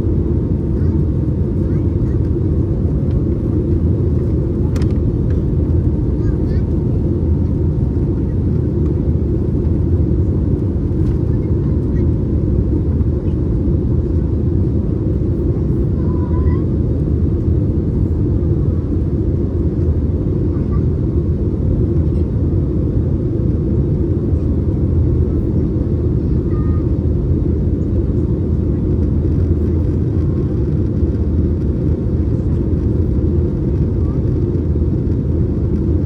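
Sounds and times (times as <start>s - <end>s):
jet engines and airflow rumble: 0.0s - 36.0s.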